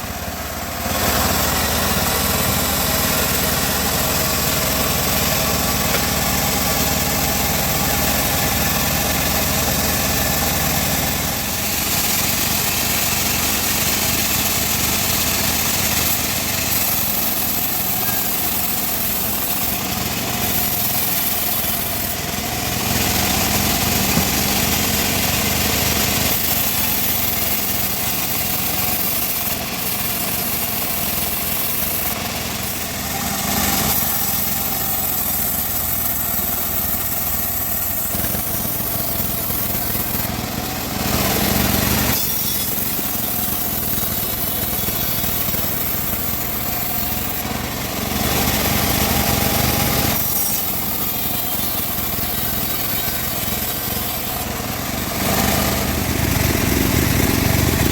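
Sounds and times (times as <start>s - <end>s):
band saw cutting wood: 0.0s - 57.9s.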